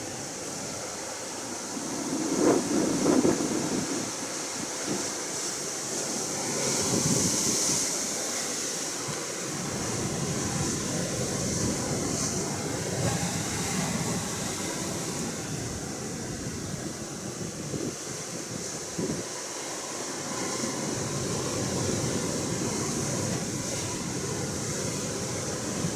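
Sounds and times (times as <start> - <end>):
ocean surf washing: 0.0 - 25.9
wind: 0.0 - 25.9.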